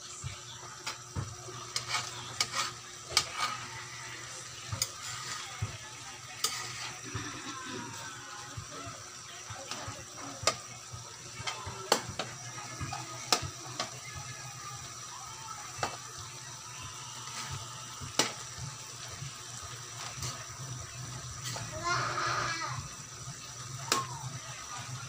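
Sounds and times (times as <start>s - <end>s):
noodles sizzling in a pan: 0.0s - 25.0s.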